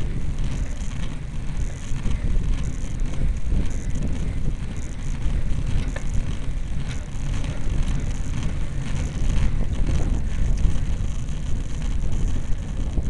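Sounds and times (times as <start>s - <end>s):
faint clicks and rattles: 0.0s - 13.0s
low road rumble: 0.0s - 13.0s
wind buffeting microphone: 0.0s - 13.0s.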